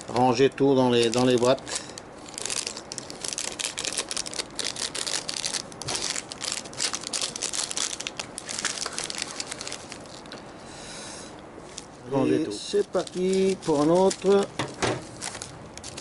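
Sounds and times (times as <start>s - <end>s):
plastic packets crinkling: 0.0s - 10.4s, 12.8s - 16.0s.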